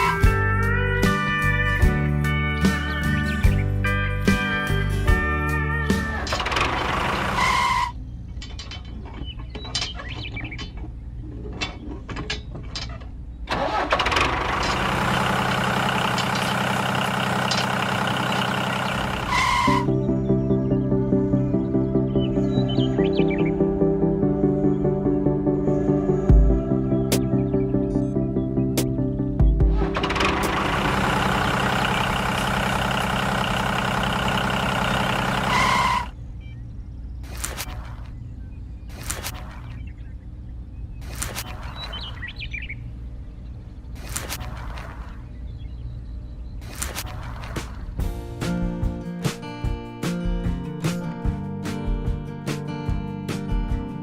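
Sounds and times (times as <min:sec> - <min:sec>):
engine running: 0:00.0 - 0:09.6, 0:10.4 - 0:54.0.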